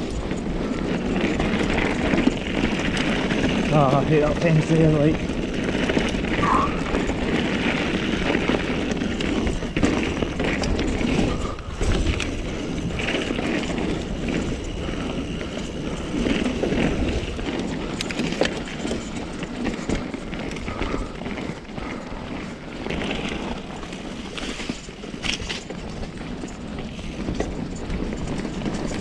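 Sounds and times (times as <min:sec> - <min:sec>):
bike rattling and knocking: 0:00.0 - 0:29.0
bike tyres rumbling on trail: 0:00.0 - 0:29.0.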